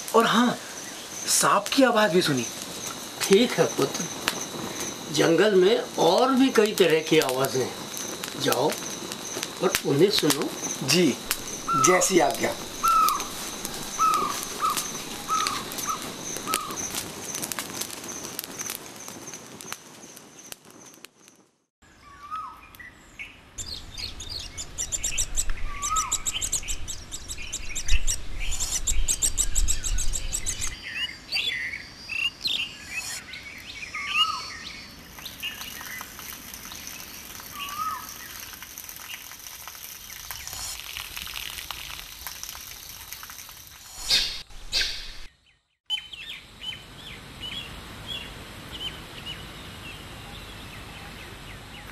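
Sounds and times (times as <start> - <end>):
steady high hiss: 0.0 - 21.2, 23.2 - 45.3, 46.1 - 51.9
forest birds calling and chirping: 0.4 - 17.0, 21.9 - 39.3, 44.0 - 51.9.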